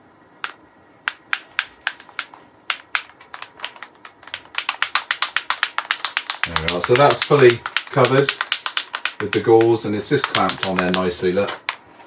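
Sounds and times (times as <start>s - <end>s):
paint bottle rattling when shaken: 1.1s - 11.8s.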